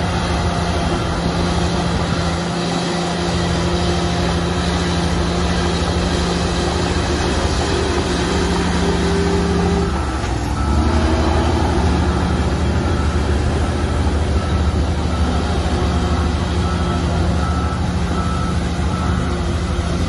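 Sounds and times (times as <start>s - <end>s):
heavy machinery diesel engine running: 0.0s - 20.0s.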